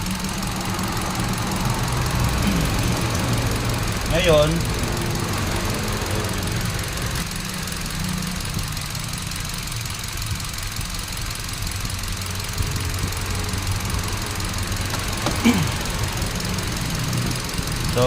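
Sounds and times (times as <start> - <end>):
car engine idling and misfiring: 0.0 - 18.0.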